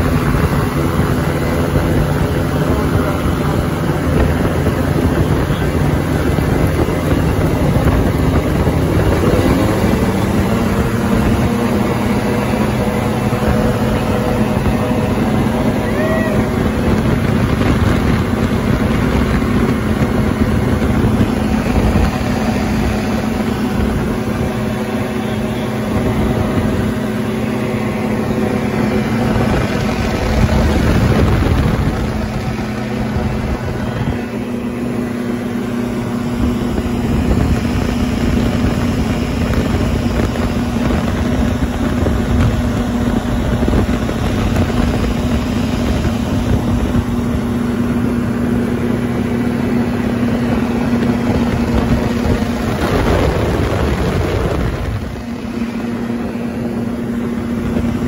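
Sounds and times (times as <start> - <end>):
aircraft engine droning: 0.0 - 58.0
wind noise on microphone: 0.0 - 58.0.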